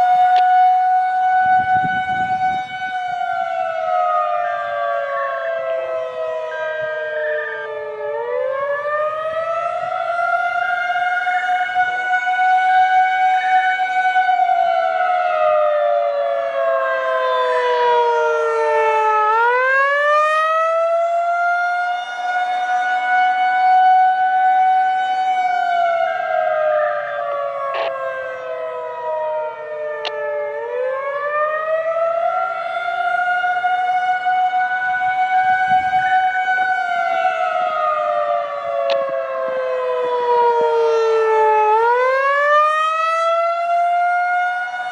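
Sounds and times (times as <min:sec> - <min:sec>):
warning siren wailing: 0:00.0 - 0:44.9.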